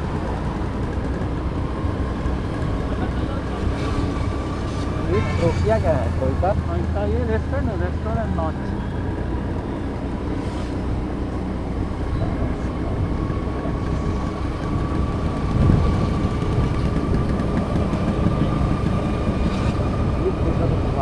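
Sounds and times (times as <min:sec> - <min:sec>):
vehicle road and engine noise: 0:00.0 - 0:21.0.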